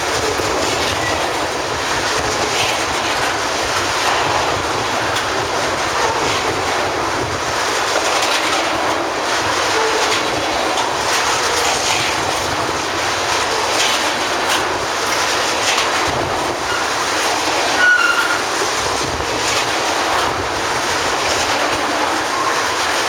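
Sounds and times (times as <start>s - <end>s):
rumble of train wheels on rail: 0.0s - 23.0s
wheels clacking over rail joints: 0.0s - 23.0s.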